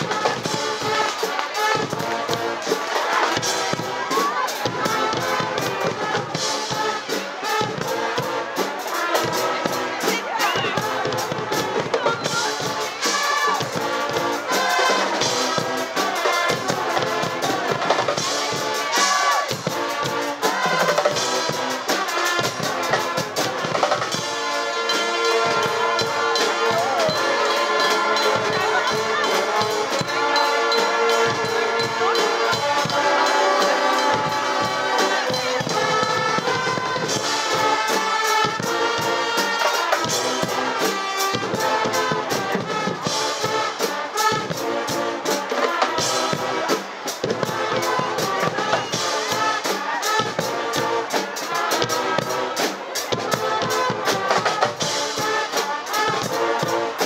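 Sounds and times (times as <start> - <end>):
brass band playing loudly: 0.0 - 57.0
drums and cymbals beat: 0.0 - 57.0.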